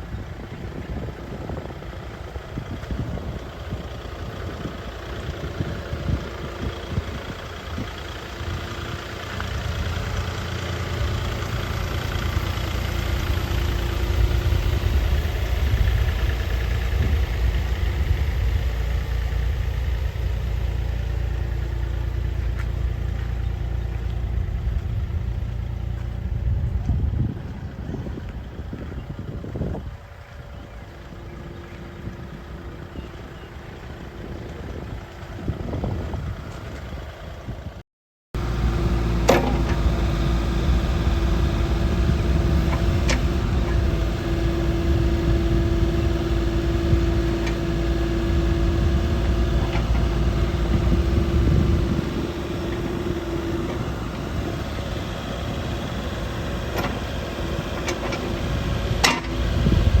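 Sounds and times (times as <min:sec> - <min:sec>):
excavator diesel engine running: 0:00.0 - 0:37.8, 0:38.4 - 1:00.0.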